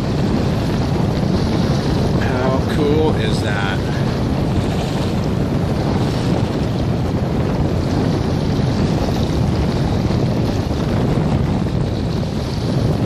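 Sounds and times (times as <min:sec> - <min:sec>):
choppy water: 0:00.0 - 0:13.0
wind buffeting microphone: 0:00.0 - 0:13.0.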